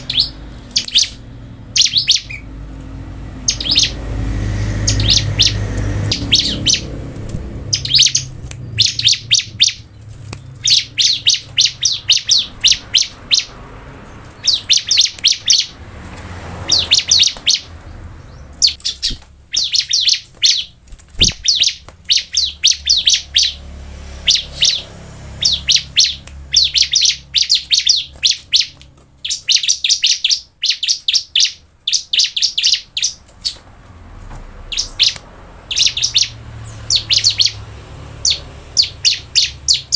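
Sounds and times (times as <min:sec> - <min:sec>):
bird singing high-pitched notes: 0:00.0 - 0:02.6, 0:03.4 - 0:13.6, 0:14.2 - 0:15.8, 0:16.6 - 0:33.6, 0:34.7 - 0:39.9.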